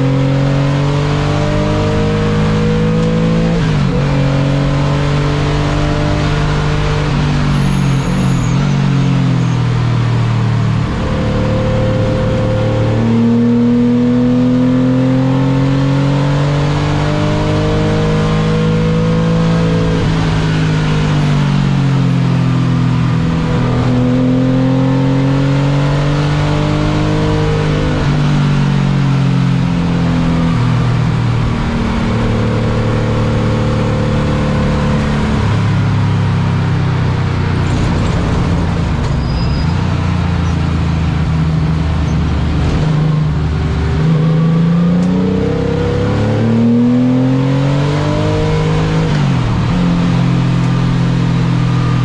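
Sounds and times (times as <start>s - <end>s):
car engine revving at high load: 0.0s - 52.0s.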